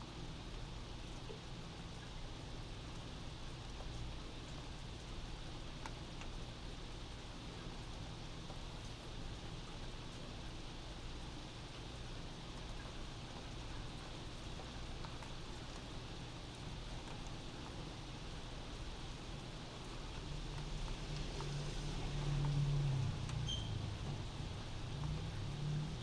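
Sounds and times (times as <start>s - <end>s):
rain heard from indoors: 0.0s - 26.0s.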